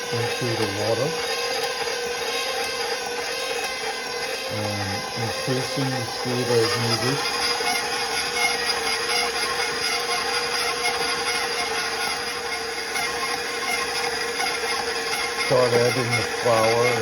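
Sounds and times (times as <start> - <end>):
dough mixer motor humming: 0.0 - 17.0.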